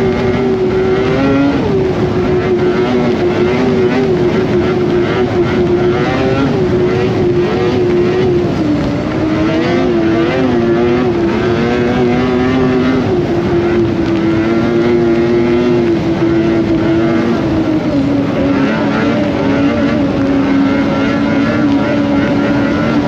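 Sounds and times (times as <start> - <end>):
lower engine tone: 0.0 - 23.0
snowmobile engine running: 0.0 - 23.0.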